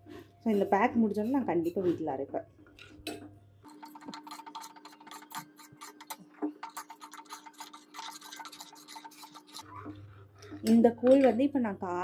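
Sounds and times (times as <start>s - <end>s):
metal ladle scraping pot: 0.5s - 2.1s, 3.1s - 11.4s.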